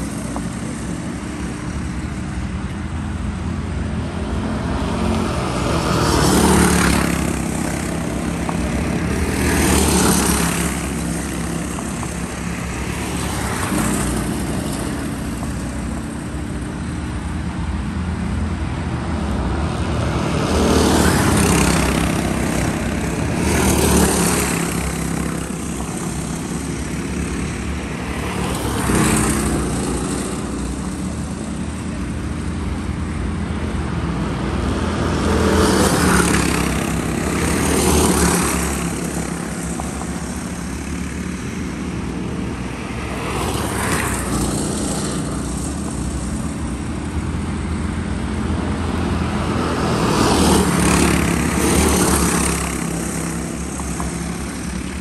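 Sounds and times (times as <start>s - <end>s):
go-kart engines racing: 0.0s - 55.0s.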